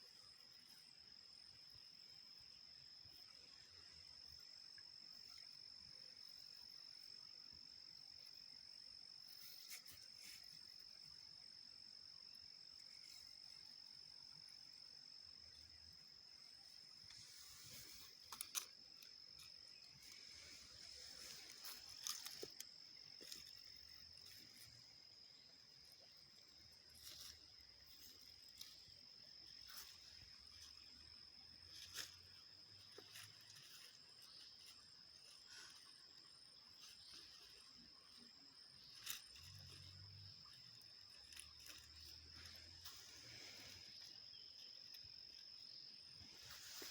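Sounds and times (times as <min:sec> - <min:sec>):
insect trilling: 0:00.0 - 0:46.9.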